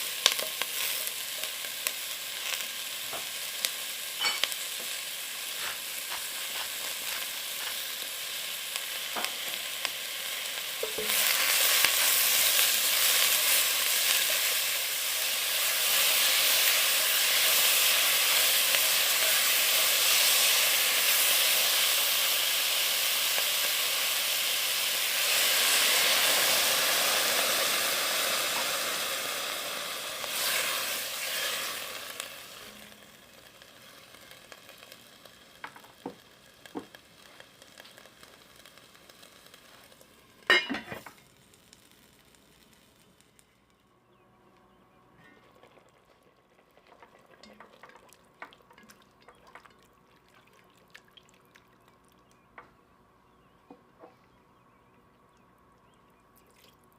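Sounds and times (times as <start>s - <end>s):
food frying in oil: 0.0s - 43.9s, 45.3s - 52.6s.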